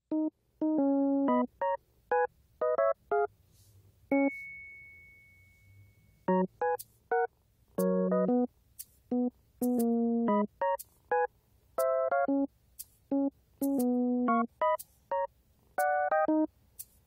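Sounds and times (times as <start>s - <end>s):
bouncy keyboard tune: 0.0s - 3.4s, 4.1s - 5.0s, 5.8s - 16.6s.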